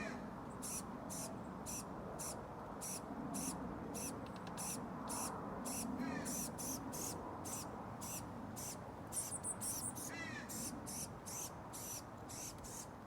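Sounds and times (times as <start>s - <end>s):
young bird begging calls: 0.6s - 12.9s.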